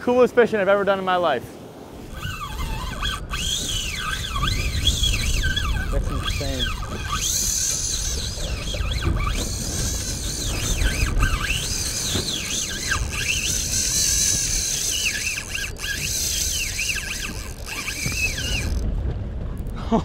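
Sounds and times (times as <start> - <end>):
fishing reel drag screaming: 2.0 - 18.9.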